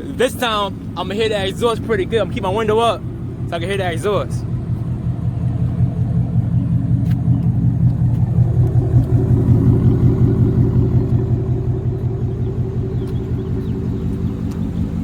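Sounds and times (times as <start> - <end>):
car engine idling rumble: 0.0 - 15.0.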